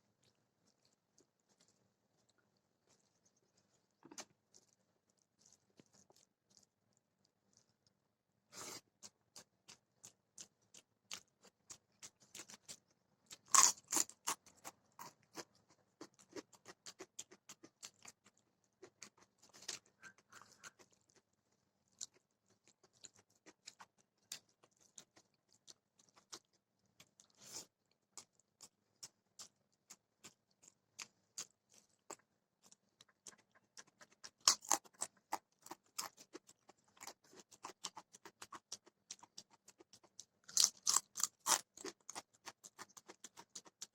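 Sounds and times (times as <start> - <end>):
chewing food crunches: 0.1 - 8.0, 8.6 - 43.9.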